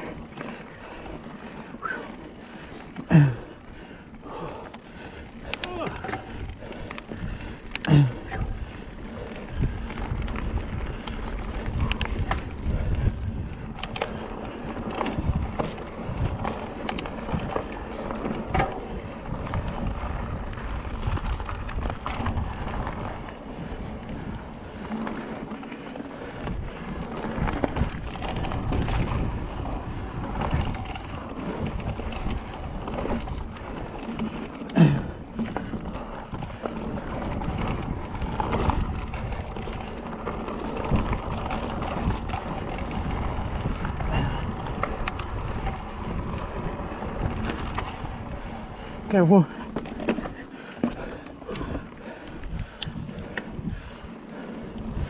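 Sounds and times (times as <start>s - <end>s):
bike rattling over rocks: 0.0s - 55.0s
bike tyres rumbling on trail: 0.0s - 55.0s
wind on microphone: 5.4s - 34.4s, 35.0s - 55.0s.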